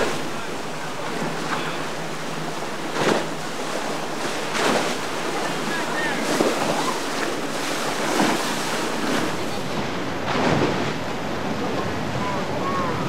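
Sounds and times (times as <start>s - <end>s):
surf and rough water: 0.0s - 13.0s.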